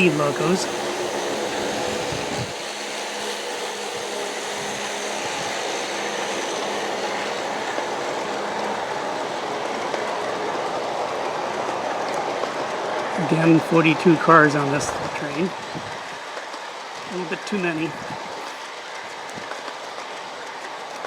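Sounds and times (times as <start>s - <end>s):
model train wheels rumbling on rail: 0.0s - 21.0s.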